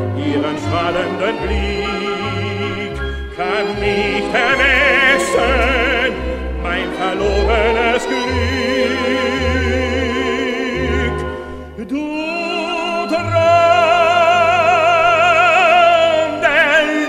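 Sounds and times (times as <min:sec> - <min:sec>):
orchestra playing operetta music: 0:00.0 - 0:17.0.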